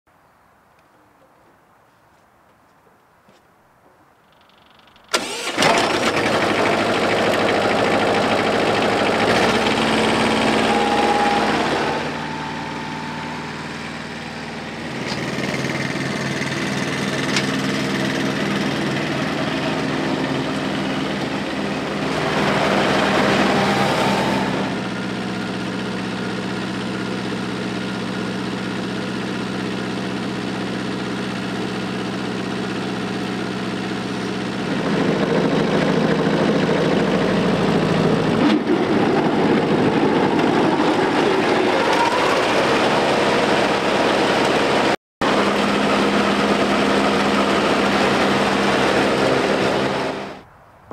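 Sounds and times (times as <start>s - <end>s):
ride-on mower diesel engine: 4.3s - 50.9s.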